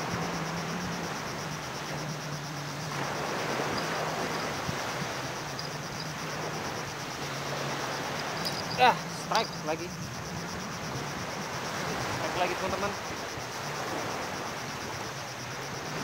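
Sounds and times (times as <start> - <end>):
insects trilling: 0.0 - 16.0
small waves washing onto beach: 0.0 - 16.0.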